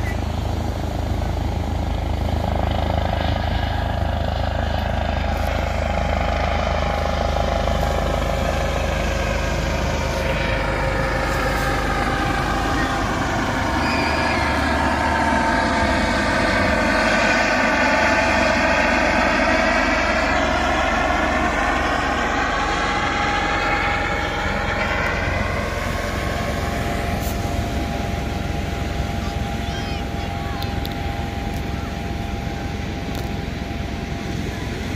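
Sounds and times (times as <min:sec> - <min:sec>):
helicopter flying over: 0:00.0 - 0:34.9.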